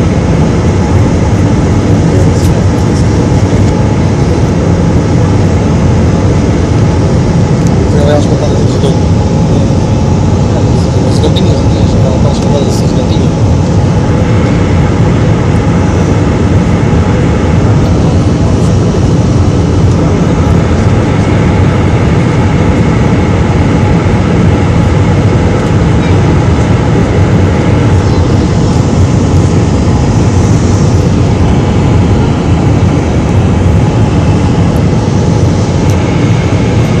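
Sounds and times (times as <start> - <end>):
jet airliner cabin noise: 0.0 - 37.0.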